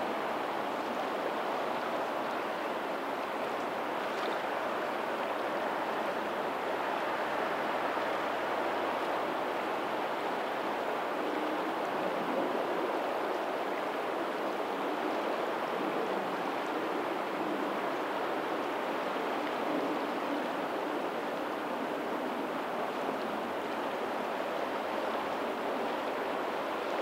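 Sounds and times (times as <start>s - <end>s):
faint ocean waves: 0.0s - 27.0s
rushing tidal water: 0.0s - 27.0s.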